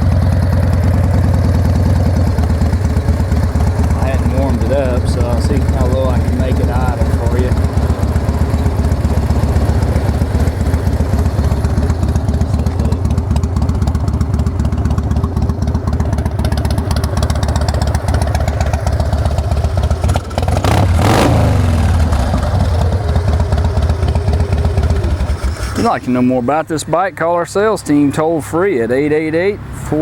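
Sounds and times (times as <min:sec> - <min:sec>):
motorcycle engine idling: 0:00.0 - 0:29.4.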